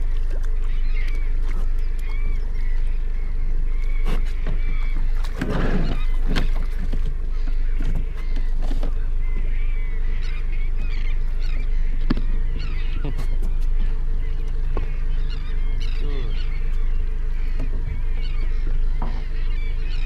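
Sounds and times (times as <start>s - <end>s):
boat engine humming: 0.0s - 20.0s
seabirds calling: 0.0s - 20.0s.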